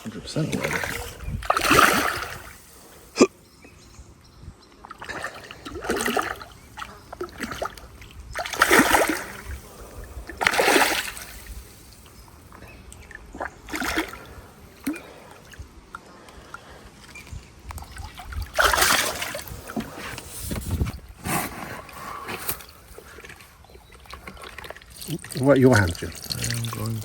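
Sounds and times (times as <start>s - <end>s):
fish splashing in water: 0.5s - 3.1s, 4.8s - 20.1s, 22.9s - 27.0s.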